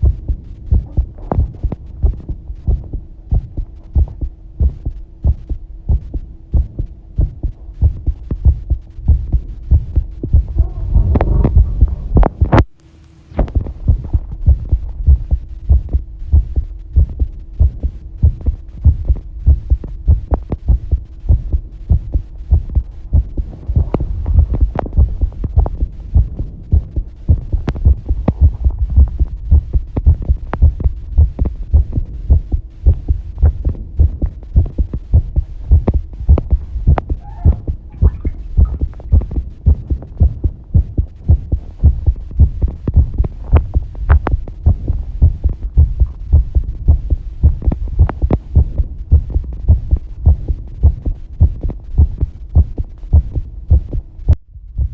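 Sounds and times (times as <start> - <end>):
faint steady hum: 0.0 - 54.9
heartbeat thumps: 0.0 - 54.9.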